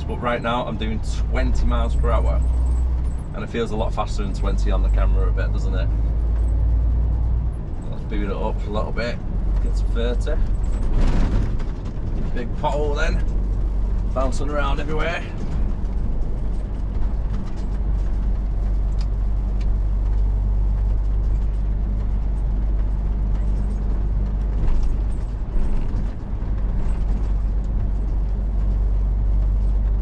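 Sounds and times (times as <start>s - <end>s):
cab rattles and clicks: 0.0s - 30.0s
road noise: 0.0s - 30.0s
truck diesel engine drone: 0.0s - 30.0s.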